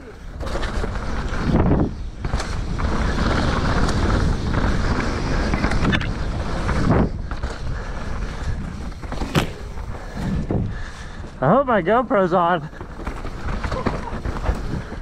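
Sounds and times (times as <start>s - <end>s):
wind buffeting microphone: 0.2s - 12.0s, 12.6s - 15.0s.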